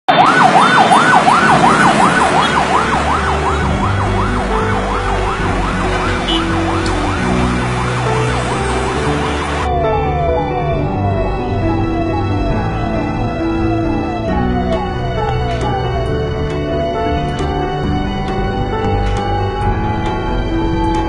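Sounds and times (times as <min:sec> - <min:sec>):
ambulance siren yelping: 0:00.1 - 0:21.0
traffic noise: 0:00.1 - 0:21.0.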